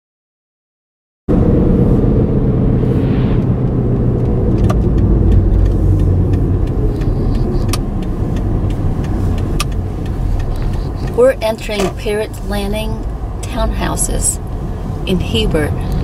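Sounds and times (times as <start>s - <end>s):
car engine and road rumble: 1.3s - 16.0s.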